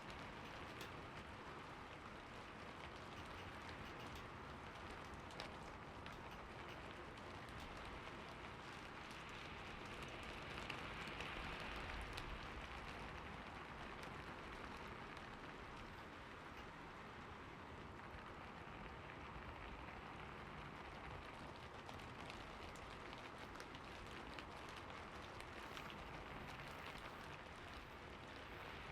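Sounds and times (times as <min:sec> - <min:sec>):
faint raindrop ticks: 0:00.0 - 0:28.9
steady rain hiss: 0:00.0 - 0:28.9.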